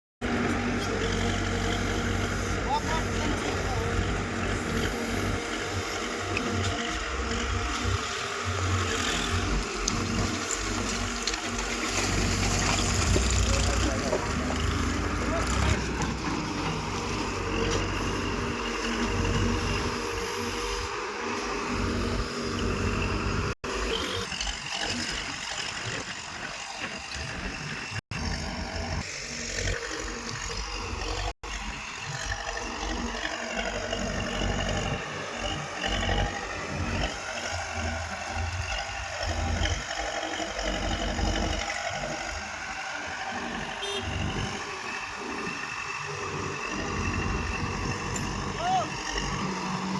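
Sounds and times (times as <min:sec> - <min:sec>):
diesel engines under load: 0:00.2 - 0:49.9.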